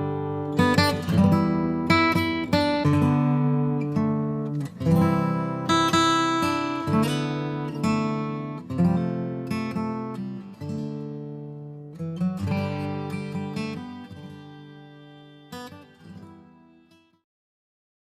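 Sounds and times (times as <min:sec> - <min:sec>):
strummed acoustic guitar: 0:00.0 - 0:17.2.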